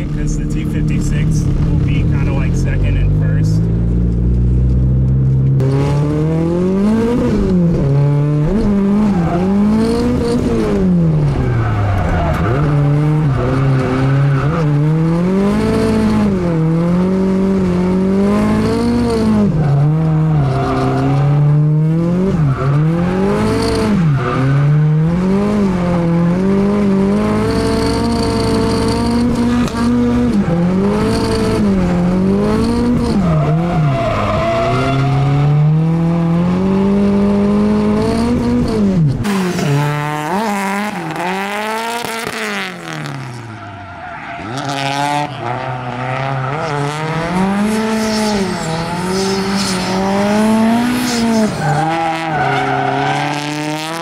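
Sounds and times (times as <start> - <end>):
car engine revving: 0.0 - 54.0
distant drift car engine: 0.0 - 54.0.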